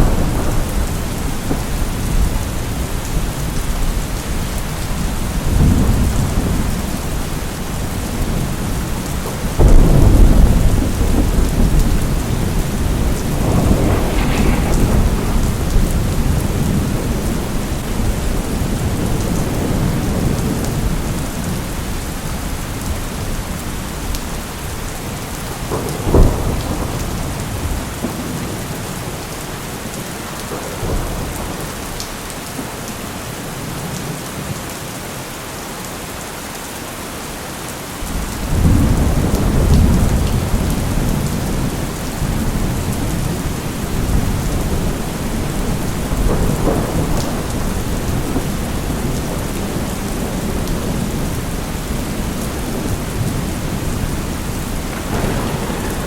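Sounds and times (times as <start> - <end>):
thunder rumbling: 0.0 - 29.3, 38.0 - 56.0
heavy rain: 0.0 - 56.0.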